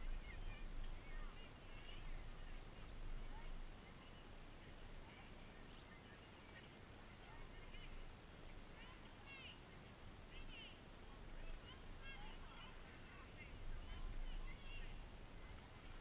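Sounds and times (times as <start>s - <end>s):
faint distant voices: 0.0s - 16.0s.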